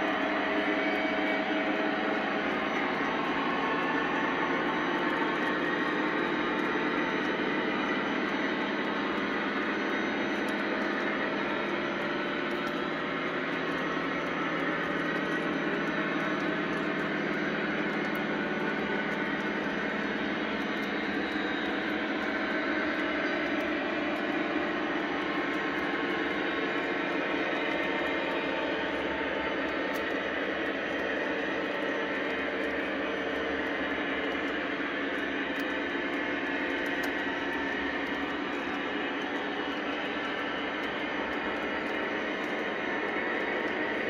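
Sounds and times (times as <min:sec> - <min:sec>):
model train wheels rolling on rails: 0:00.0 - 0:44.0.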